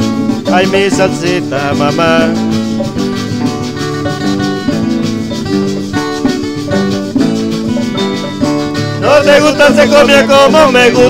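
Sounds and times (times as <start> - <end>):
guitar melody and chords: 0.0 - 11.0
steady beat: 0.0 - 11.0.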